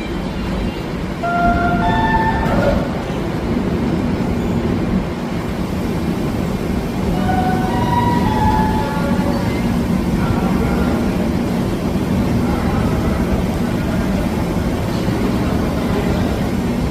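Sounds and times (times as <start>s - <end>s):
train wheels rumbling on track: 0.0s - 16.9s.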